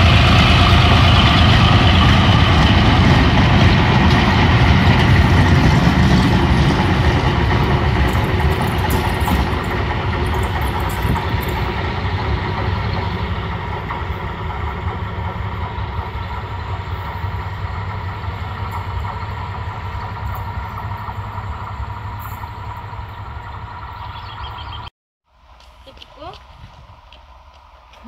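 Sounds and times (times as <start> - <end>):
diesel train rumbling: 0.0 - 28.0.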